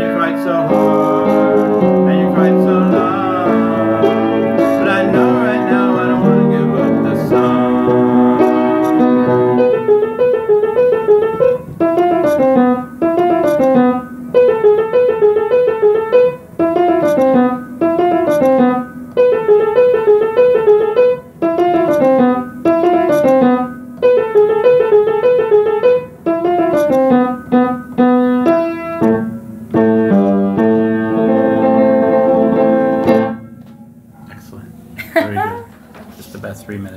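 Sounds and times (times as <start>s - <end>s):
piano playing pop song: 0.0s - 34.4s.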